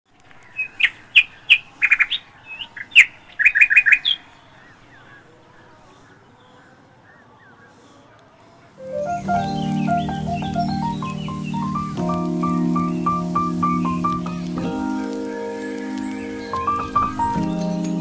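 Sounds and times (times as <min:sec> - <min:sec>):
birds chirping and calling: 0:00.2 - 0:18.0.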